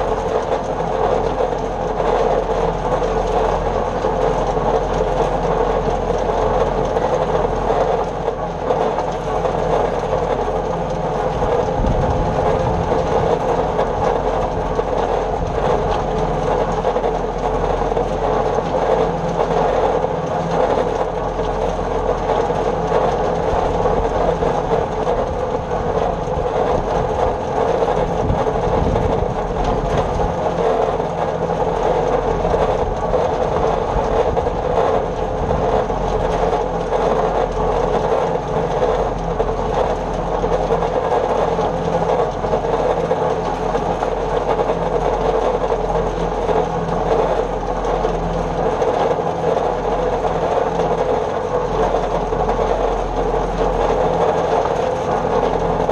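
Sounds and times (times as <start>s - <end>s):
low engine hum: 0.0s - 55.9s.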